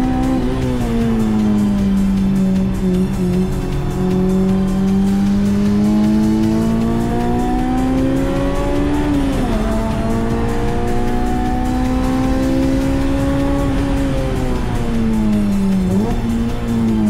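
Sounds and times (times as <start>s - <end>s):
car engine revving under full throttle: 0.0s - 17.0s.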